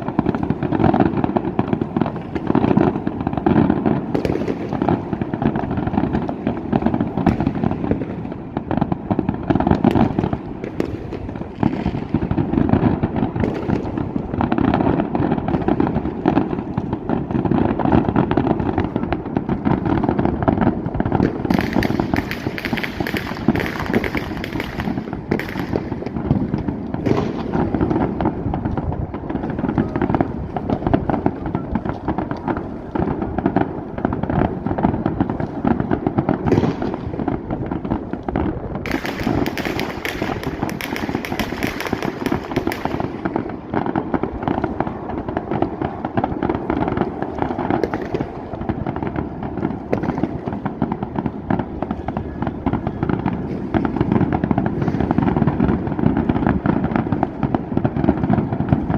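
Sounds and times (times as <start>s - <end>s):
fireworks and firecrackers crackling: 0.0s - 58.9s.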